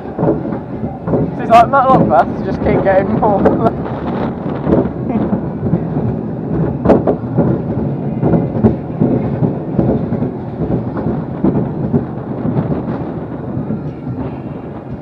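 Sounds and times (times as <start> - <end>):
knocks and rattles: 0.0 - 15.0
wind buffeting microphone: 0.0 - 15.0.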